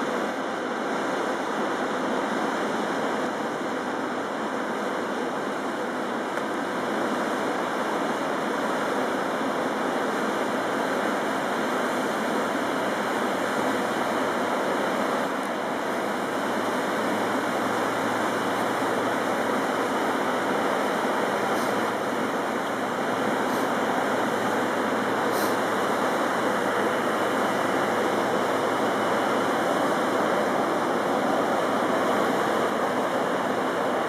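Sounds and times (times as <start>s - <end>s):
rushing water from boat wake: 0.0s - 34.0s.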